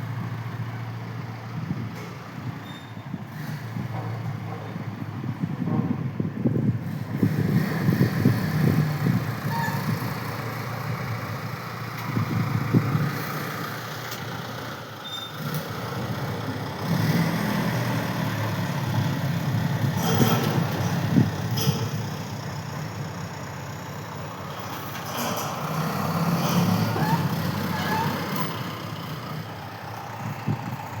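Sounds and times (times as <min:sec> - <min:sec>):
diesel construction machinery engine: 0:00.0 - 0:31.0.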